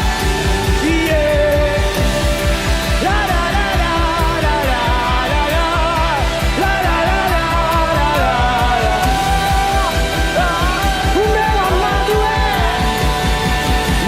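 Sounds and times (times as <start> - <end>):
drum beat: 0.0 - 14.0
live worship band music: 0.0 - 14.0.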